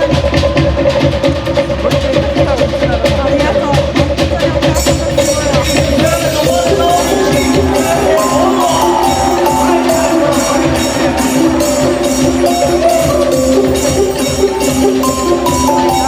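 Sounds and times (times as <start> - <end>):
melody over percussion beat: 0.0 - 16.0.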